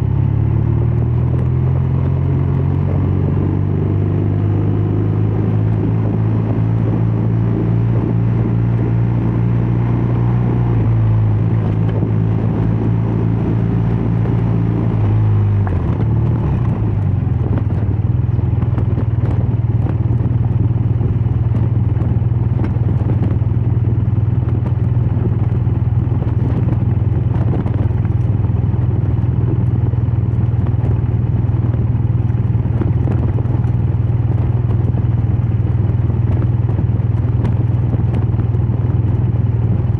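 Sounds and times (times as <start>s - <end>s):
motorcycle engine and exhaust: 0.0s - 39.9s
wind and road noise: 0.0s - 39.9s.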